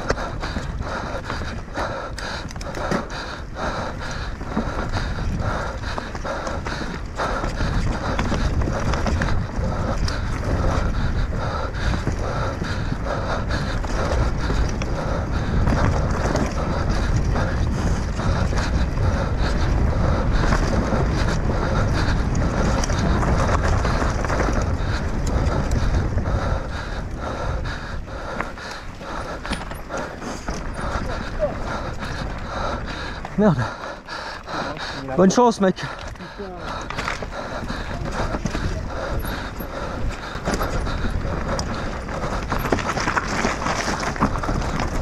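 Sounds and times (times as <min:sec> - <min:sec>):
bike clattering over rough ground: 0:00.0 - 0:45.0
wind buffeting microphone: 0:00.0 - 0:45.0.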